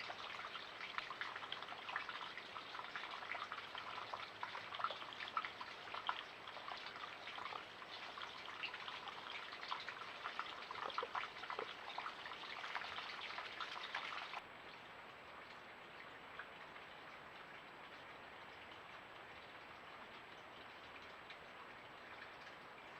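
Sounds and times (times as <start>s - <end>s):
creek babbling over rocks: 0.0s - 22.9s.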